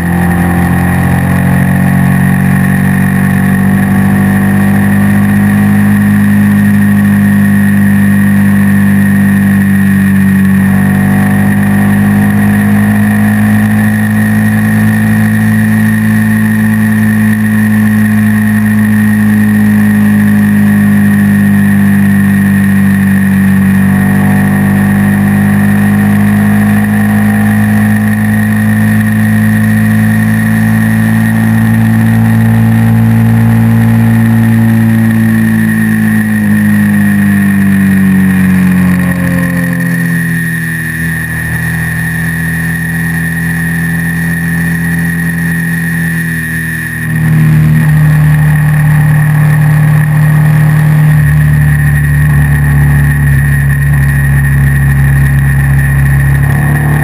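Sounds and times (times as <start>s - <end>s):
motorcycle engine running: 0.0s - 57.0s
steady high-pitched tone: 0.0s - 57.0s.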